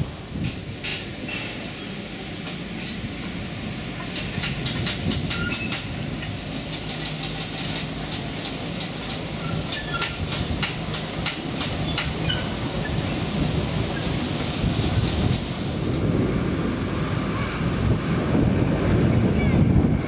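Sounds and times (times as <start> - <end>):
wheels clicking on track: 0.0 - 16.3
diesel locomotive engine hum: 0.0 - 20.0.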